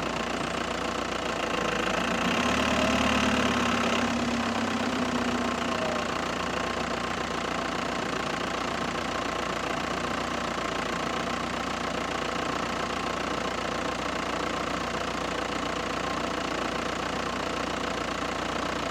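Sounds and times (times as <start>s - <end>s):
diesel engine running steadily: 0.0s - 18.9s.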